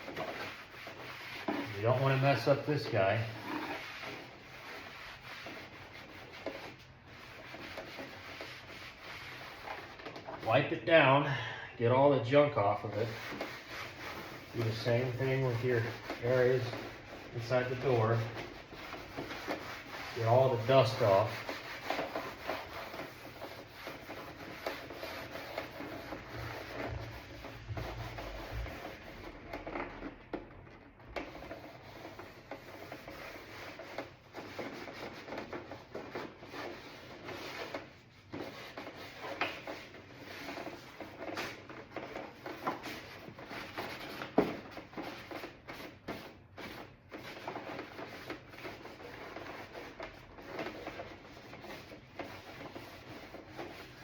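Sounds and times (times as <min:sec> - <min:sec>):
rag wiping a door panel: 0:00.0 - 0:54.0.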